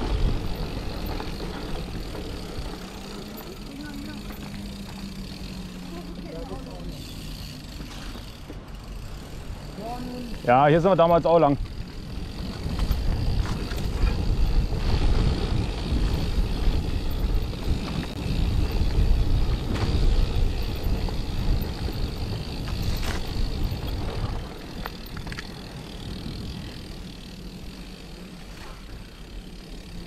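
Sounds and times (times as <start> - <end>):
wind buffeting microphone: 0.0 - 6.2, 9.0 - 27.8
bike rattling: 0.0 - 30.0
tyres rumbling on dirt: 0.0 - 30.0.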